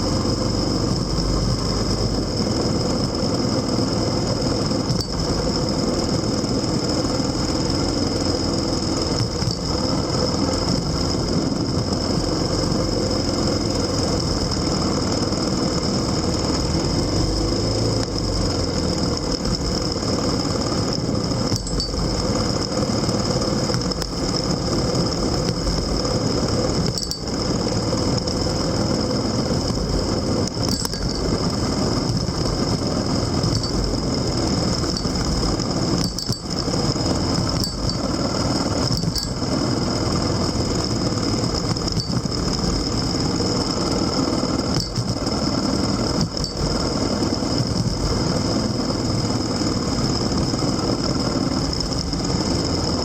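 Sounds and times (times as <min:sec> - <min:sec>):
road noise: 0:00.0 - 0:53.0
vehicle engine running: 0:00.0 - 0:53.0
wind noise: 0:00.0 - 0:53.0.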